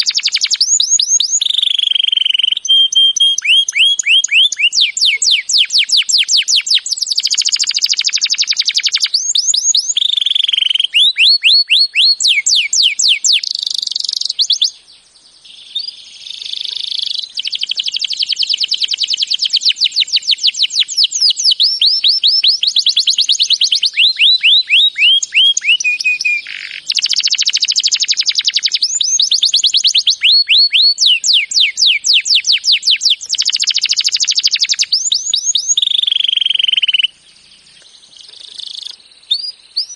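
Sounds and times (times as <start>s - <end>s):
songbird singing fast trills: 0.0s - 39.9s.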